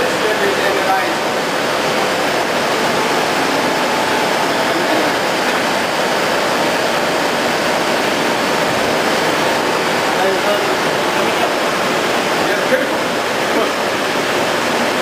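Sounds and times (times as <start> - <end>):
loud rushing noise: 0.9 - 15.0
faint hum: 1.2 - 14.8.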